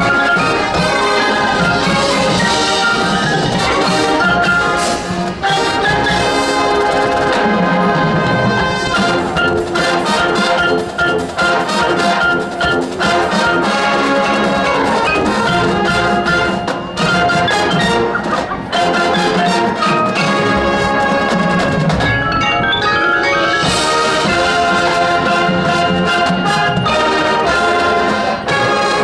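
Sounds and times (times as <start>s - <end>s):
brass chords: 0.0s - 29.0s
drums and percussion: 0.0s - 29.0s.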